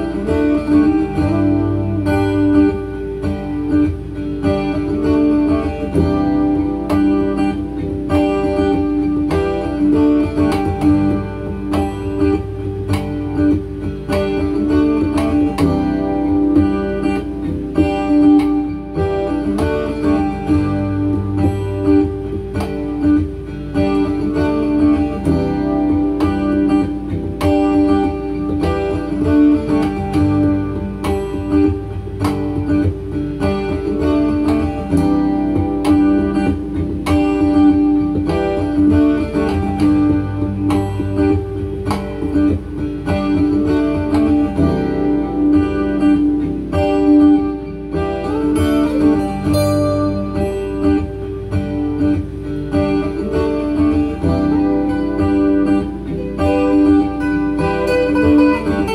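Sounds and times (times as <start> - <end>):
acoustic guitar fingerpicked and strummed: 0.0 - 58.9
repeating guitar loops: 0.0 - 58.9.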